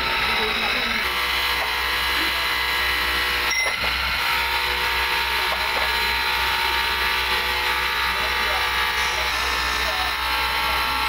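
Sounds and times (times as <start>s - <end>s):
grinding wheel whine on steel: 0.0s - 11.0s
low motor hum: 0.0s - 11.0s.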